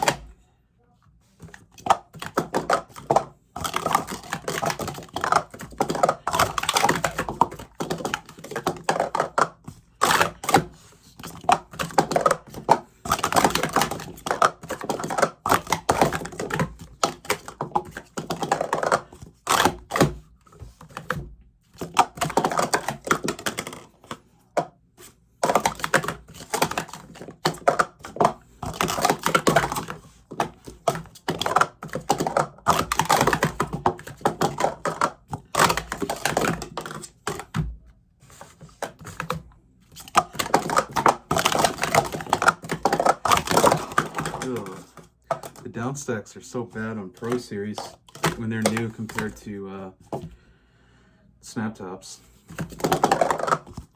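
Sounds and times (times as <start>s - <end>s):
plastic cups clattering: 0.0s - 0.4s, 1.4s - 37.7s, 38.3s - 50.4s, 52.2s - 53.9s.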